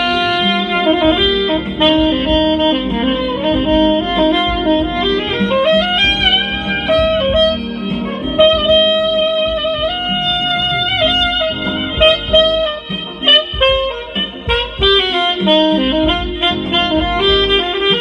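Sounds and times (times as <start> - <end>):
soprano saxophone melody: 0.0 - 18.0.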